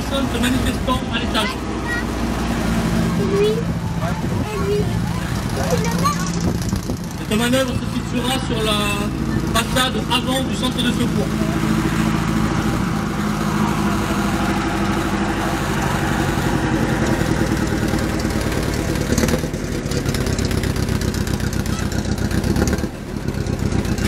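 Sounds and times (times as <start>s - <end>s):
fire engine engine throbbing: 0.0s - 24.0s.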